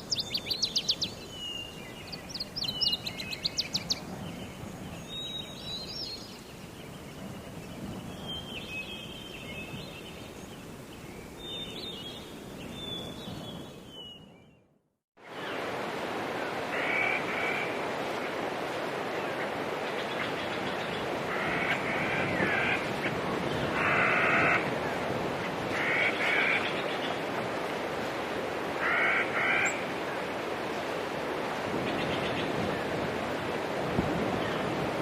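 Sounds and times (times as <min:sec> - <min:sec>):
hissy outdoor ambience: 0:00.0 - 0:13.9, 0:15.2 - 0:35.0
wild birds chirping: 0:00.0 - 0:14.7, 0:15.3 - 0:35.0.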